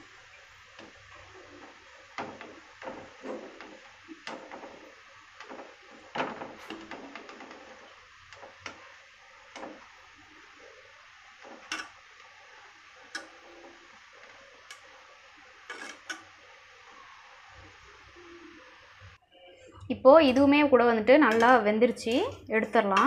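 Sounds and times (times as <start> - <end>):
dough balls sizzling in hot oil: 0.0 - 19.2.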